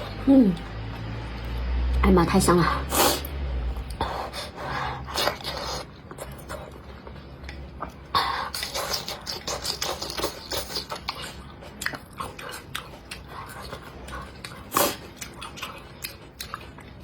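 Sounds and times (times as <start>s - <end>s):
person chewing: 2.9s - 17.0s.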